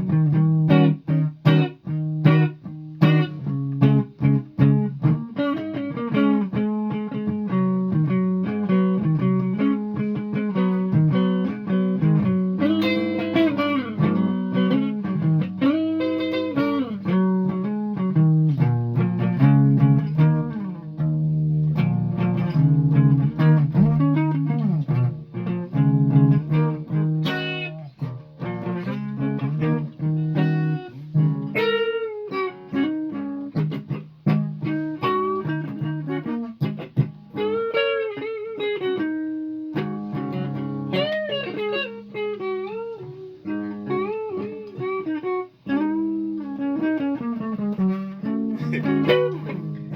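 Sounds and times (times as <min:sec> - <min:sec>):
guitar plucked melody with bends: 0:00.0 - 0:49.9.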